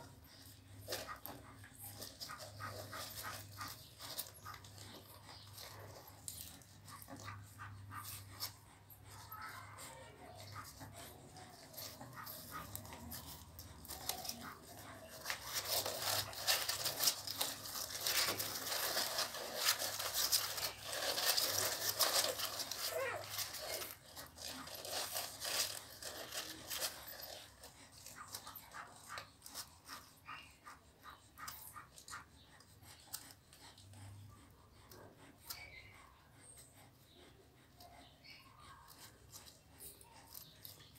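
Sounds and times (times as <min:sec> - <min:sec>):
puppies squeaking and whimpering: 0:00.0 - 0:34.0
puppies suckling: 0:00.0 - 0:40.9.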